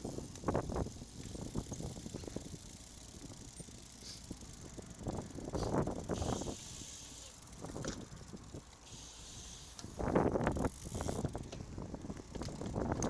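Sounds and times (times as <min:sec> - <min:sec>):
wind buffeting microphone: 0:00.0 - 0:03.5, 0:04.3 - 0:08.7, 0:09.8 - 0:13.0
bicycle tyre noise: 0:00.0 - 0:13.0.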